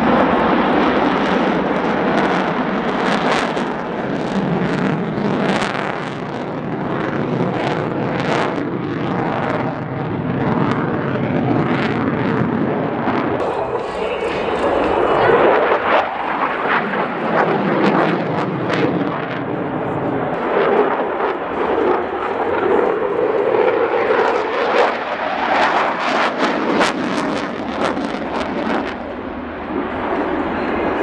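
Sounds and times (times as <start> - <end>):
jet engine roar with crackles: 0.0 - 31.0.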